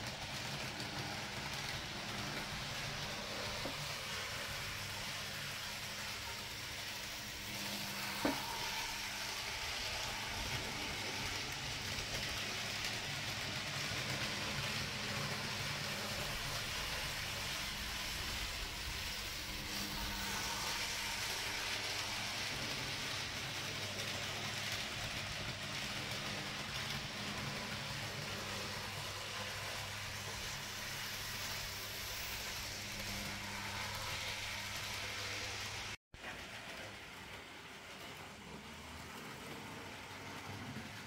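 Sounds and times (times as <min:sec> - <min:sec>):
model train motor whirring: 0:00.0 - 0:41.0.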